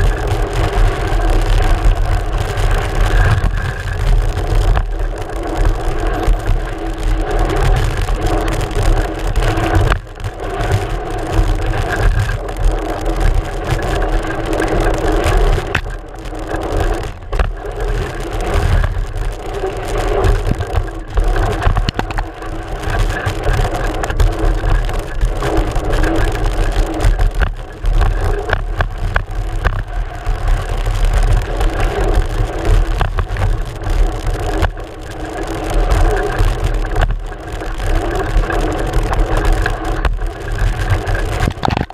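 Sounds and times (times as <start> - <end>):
bike rattling over bumps: 0.0 - 41.9
tyre and wind rush: 0.0 - 41.9.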